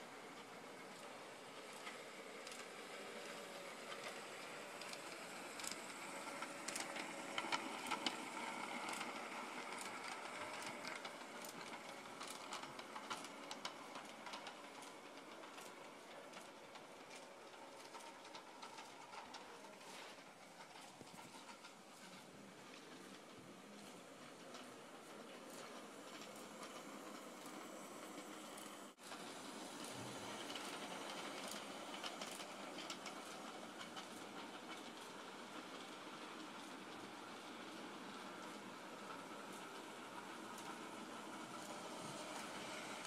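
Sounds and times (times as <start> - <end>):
wheel clicks on track: 0.1 - 43.0.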